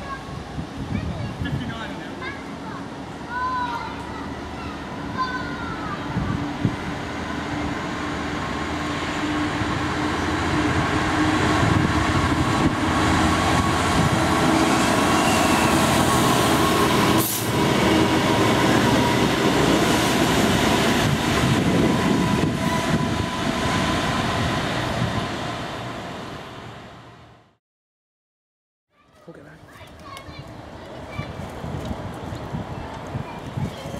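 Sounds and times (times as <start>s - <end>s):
diesel locomotive engines droning: 0.0s - 27.6s
wheels rumbling on rails: 0.0s - 27.6s, 29.2s - 33.9s.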